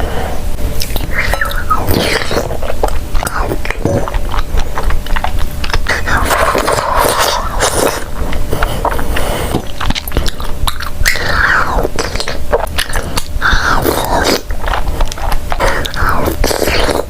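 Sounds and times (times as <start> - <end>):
person chewing with wet clicks: 0.8 - 17.0.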